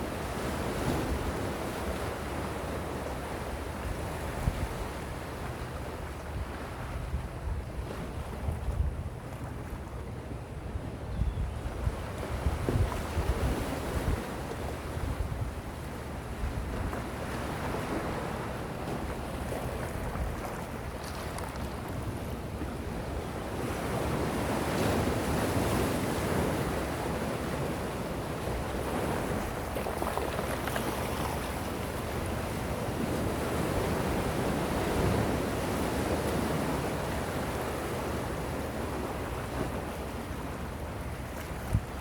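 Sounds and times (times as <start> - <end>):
wind noise on microphone: 3.7 - 42.0.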